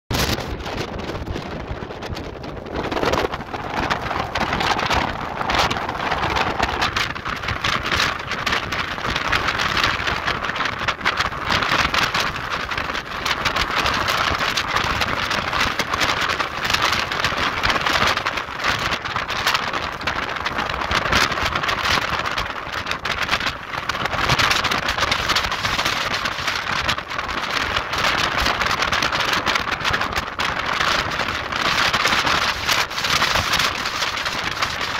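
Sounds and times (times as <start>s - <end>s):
strong wind buffeting microphone: 0.1s - 34.9s.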